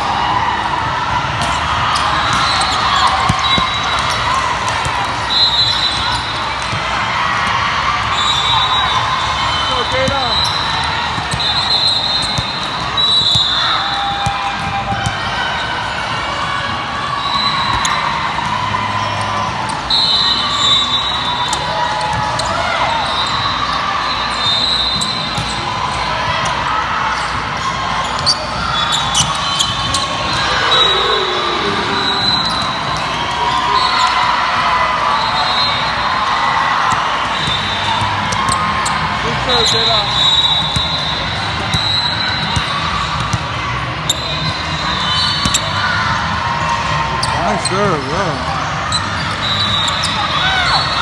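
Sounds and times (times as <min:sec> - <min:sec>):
murmur of spectators' voices: 0:00.0 - 0:51.0.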